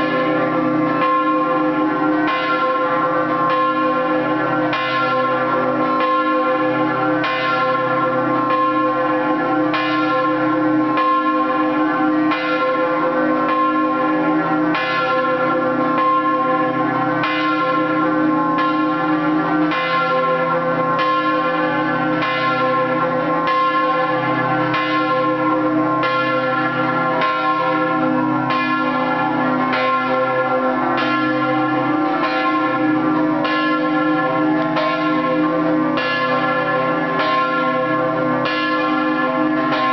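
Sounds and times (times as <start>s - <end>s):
church bells struck rhythmically: 0.0s - 39.9s.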